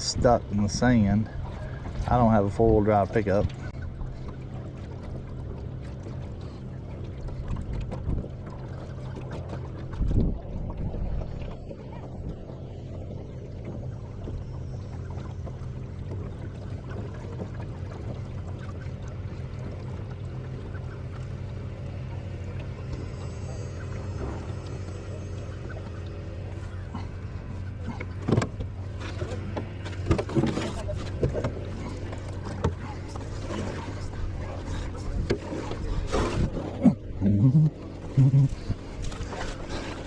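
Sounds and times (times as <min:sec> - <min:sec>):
boat bumps or knocks: 0:00.0 - 0:23.0, 0:23.9 - 0:40.0
boat motor running: 0:00.0 - 0:40.0.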